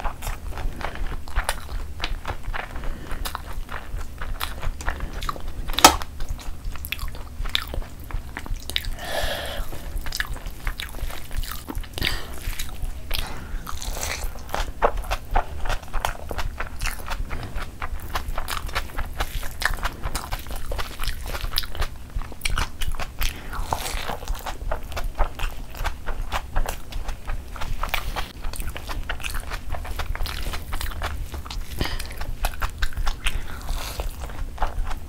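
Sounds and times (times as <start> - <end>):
close chewing with lip smacks: 0.0 - 35.0.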